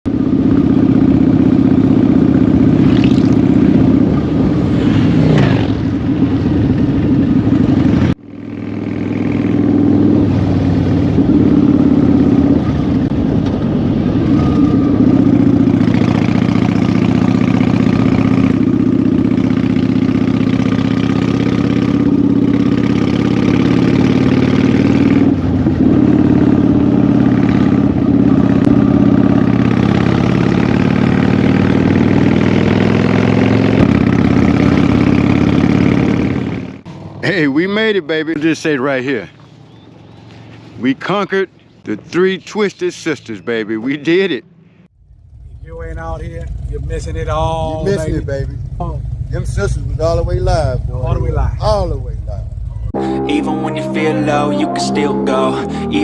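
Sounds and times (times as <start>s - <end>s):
motorcycle engine running: 0.1s - 37.5s, 44.6s - 53.0s.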